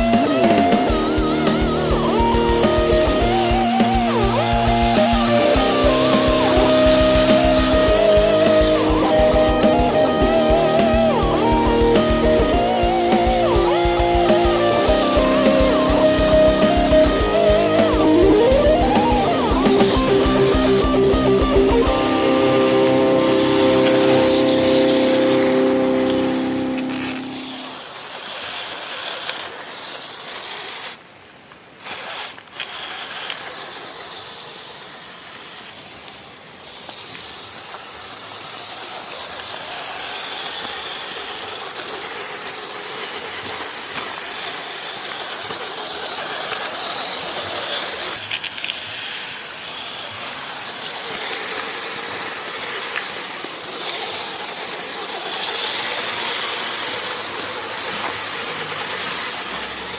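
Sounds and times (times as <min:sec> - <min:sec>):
rain hissing: 0:00.0 - 0:28.3, 0:32.8 - 0:59.9
toy car electric motor whirring: 0:00.0 - 0:59.9.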